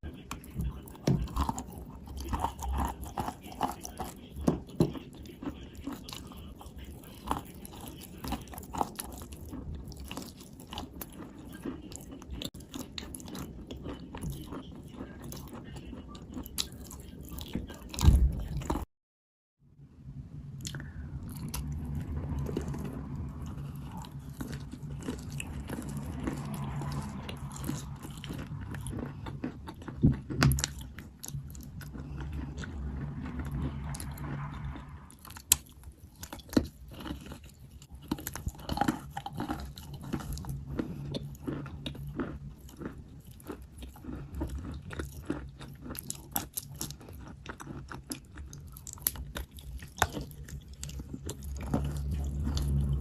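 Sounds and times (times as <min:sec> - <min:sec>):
chewing chalk crunching: 0:00.0 - 0:18.9, 0:20.6 - 0:53.0.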